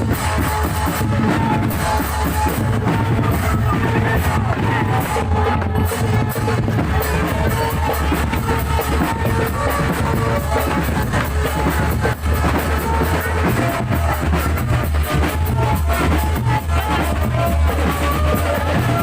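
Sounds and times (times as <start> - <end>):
heavy bass line: 0.0 - 19.0
loud music with drum beat: 0.0 - 19.0.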